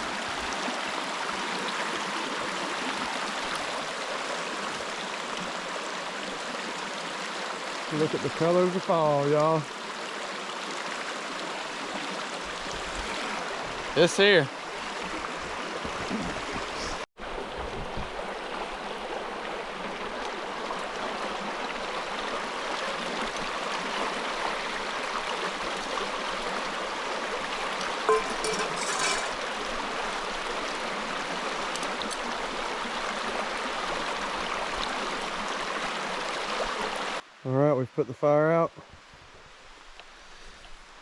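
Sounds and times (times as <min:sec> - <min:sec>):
flowing water rushing: 0:00.0 - 0:37.4.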